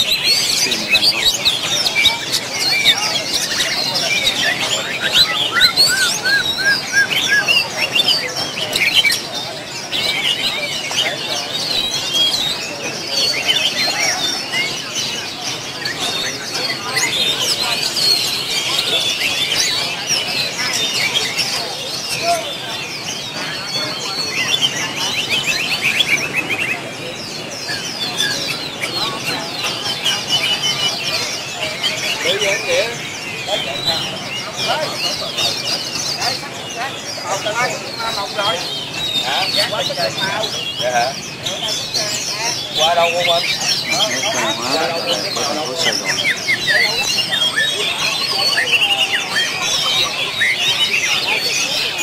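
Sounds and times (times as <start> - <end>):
caged songbirds chirping chorus: 0.0 - 52.0.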